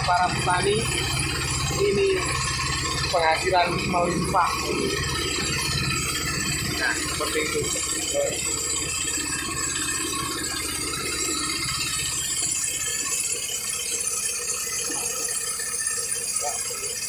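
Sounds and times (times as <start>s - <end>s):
threshing machine rattling: 0.0s - 17.0s.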